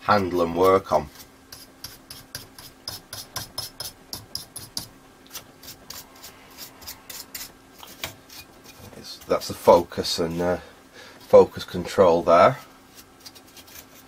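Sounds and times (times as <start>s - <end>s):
scratchy rubbing strokes: 0.4s - 10.5s, 12.4s - 14.0s.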